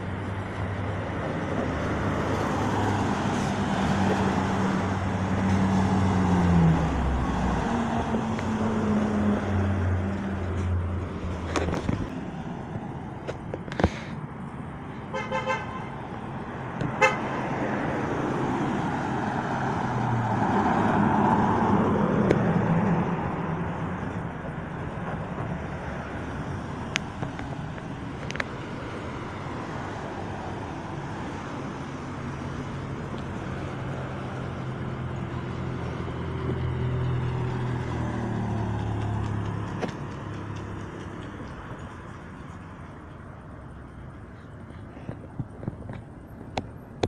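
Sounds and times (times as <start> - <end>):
cars passing: 0.0 - 47.0.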